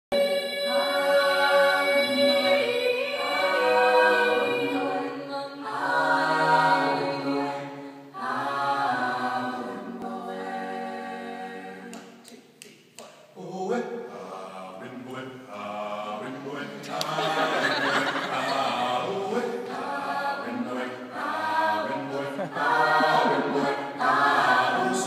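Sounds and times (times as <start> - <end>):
choir singing a cappella: 0.1 - 12.3, 13.4 - 25.0.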